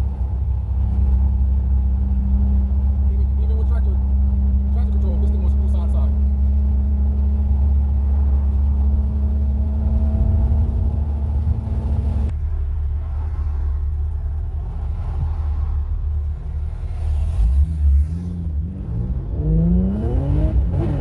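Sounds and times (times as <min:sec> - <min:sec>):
deep exhaust rumble: 0:00.0 - 0:21.0.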